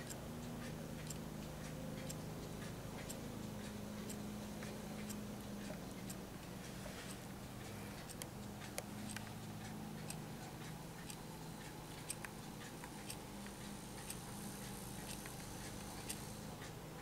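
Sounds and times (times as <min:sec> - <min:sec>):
clock ticking: 0:00.0 - 0:17.0
steady low hum: 0:00.0 - 0:17.0.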